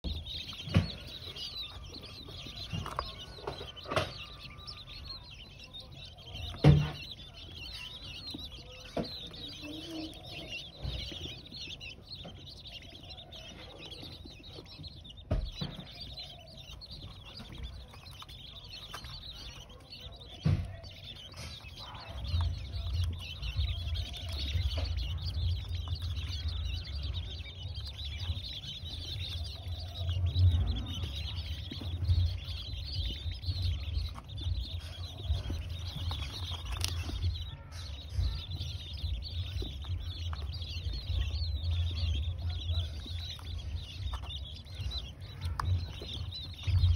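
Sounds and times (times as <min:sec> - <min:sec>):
quail chirping softly: 0:00.0 - 0:46.9.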